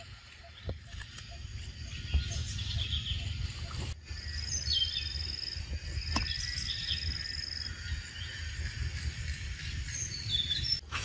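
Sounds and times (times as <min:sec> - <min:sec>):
birds calling: 0:00.0 - 0:10.9.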